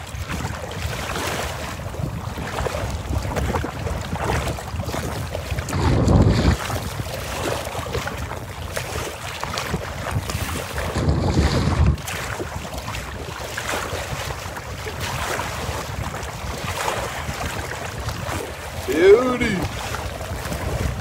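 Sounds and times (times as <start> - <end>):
waves slapping against hull: 0.0 - 21.0
wind buffeting microphone: 0.0 - 21.0.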